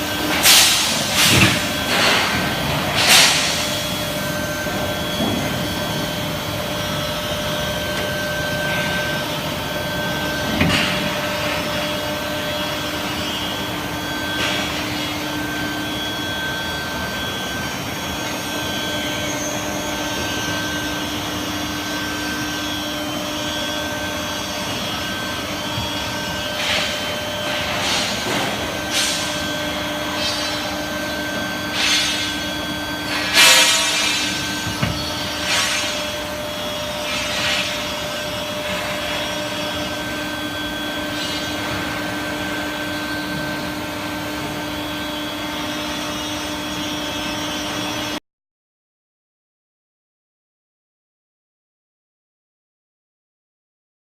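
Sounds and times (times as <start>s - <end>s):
induction furnace humming: 0.0s - 48.2s.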